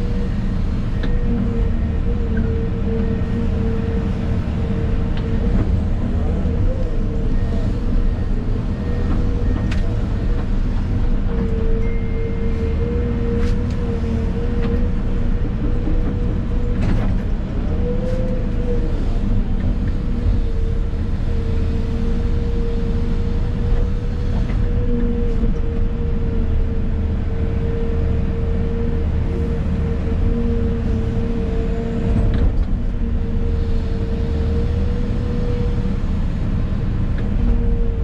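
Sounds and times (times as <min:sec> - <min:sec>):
excavator engine droning: 0:00.0 - 0:38.0.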